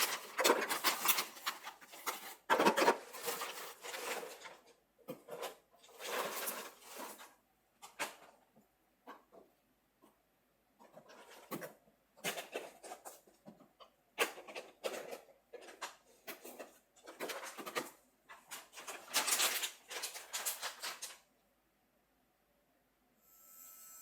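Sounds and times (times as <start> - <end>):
items rustling and scraping: 0.0 - 21.3.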